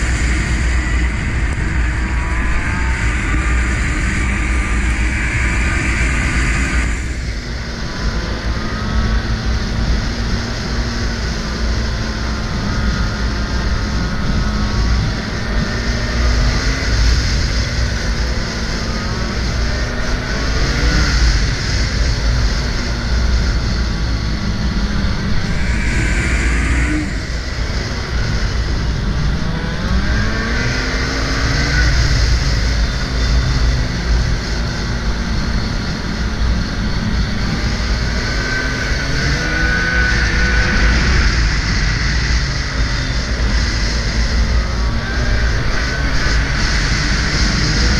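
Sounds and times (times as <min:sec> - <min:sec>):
snowmobile engine running: 0:00.0 - 0:47.9
steady rush of noise: 0:00.0 - 0:47.9.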